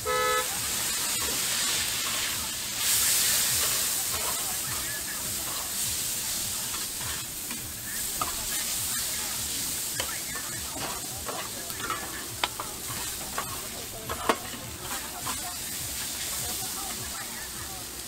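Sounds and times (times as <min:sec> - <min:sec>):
noodles sizzling on a griddle: 0:00.0 - 0:18.0
metal spatulas scraping griddle: 0:00.8 - 0:17.0.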